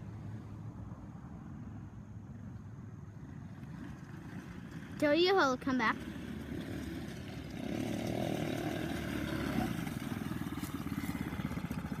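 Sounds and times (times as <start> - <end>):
off-road vehicle engine running: 1.8 - 12.0.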